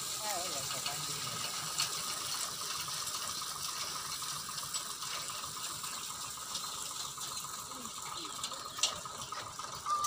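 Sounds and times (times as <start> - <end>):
rapid mechanical ticking: 0.0 - 10.0.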